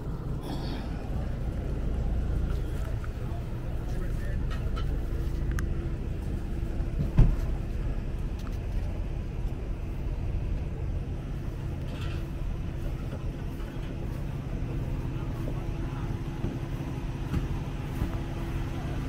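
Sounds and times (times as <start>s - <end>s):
motor humming and rumbling: 0.0s - 19.0s.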